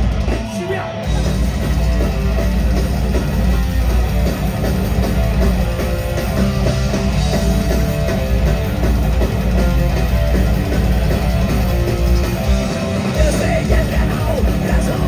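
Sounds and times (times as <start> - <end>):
electric guitar: 0.0 - 15.0
loud rock band playing live: 0.0 - 15.0.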